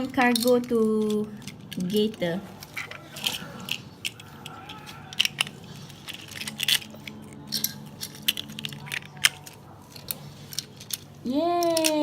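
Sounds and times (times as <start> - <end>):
plastic toy trains clicking: 0.0 - 12.0.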